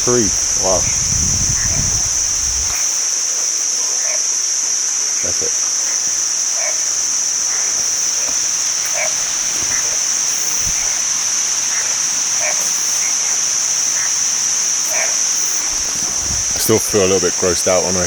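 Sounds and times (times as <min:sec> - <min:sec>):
cicadas droning: 0:00.0 - 0:18.0
frogs croaking: 0:00.0 - 0:18.0.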